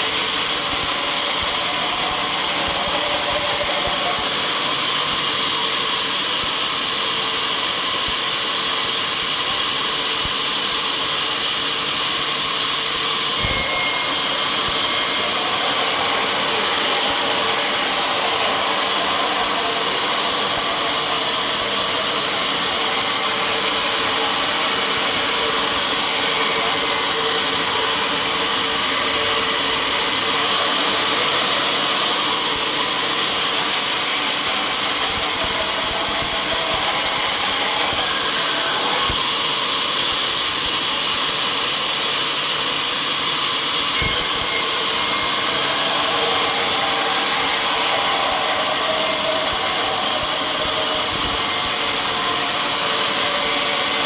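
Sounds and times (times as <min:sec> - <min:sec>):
sawmill saw running: 0:00.0 - 0:54.0.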